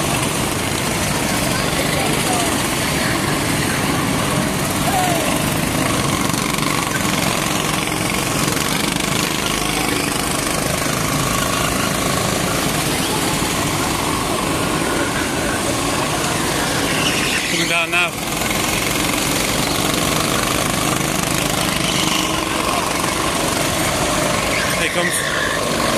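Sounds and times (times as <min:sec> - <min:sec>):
go-kart engines racing: 0:00.0 - 0:25.9.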